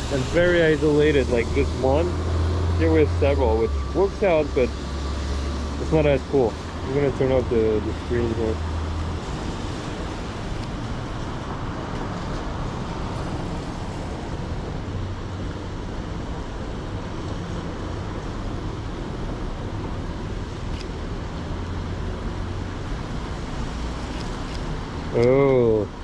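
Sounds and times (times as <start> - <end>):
traffic noise: 0.0 - 26.0.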